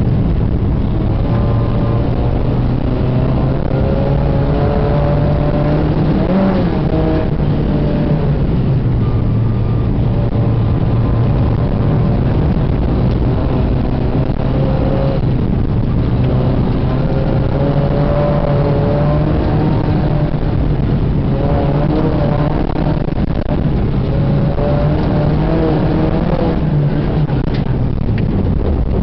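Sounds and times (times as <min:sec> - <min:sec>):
car engine from inside cabin: 0:00.0 - 0:29.0
road noise rushing: 0:00.0 - 0:29.0.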